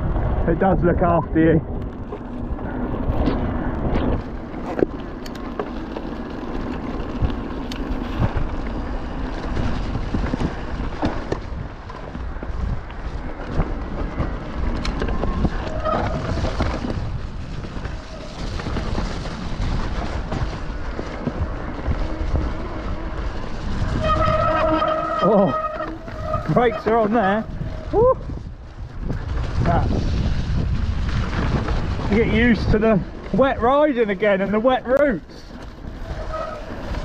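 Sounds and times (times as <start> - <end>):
wind buffeting microphone: 0.0 - 37.0
bike knocking and rattling: 1.0 - 37.0
tyres rumbling in mud: 2.0 - 37.0.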